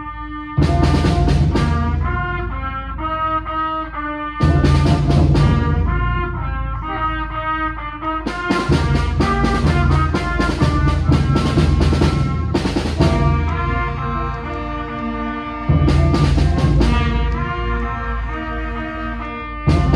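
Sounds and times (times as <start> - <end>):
concert band playing chords: 0.0 - 19.9
regular drum beat: 0.6 - 19.9.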